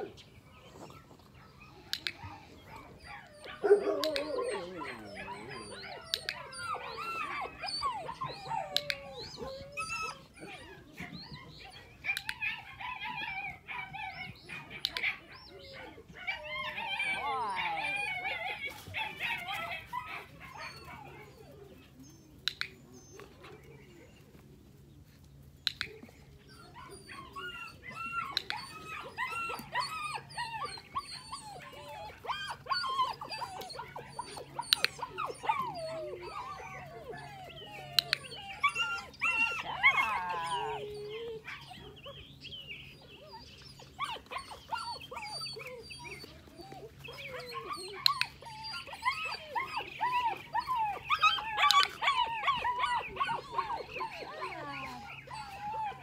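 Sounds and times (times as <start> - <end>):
puppies whining and yipping: 0.0 - 56.0.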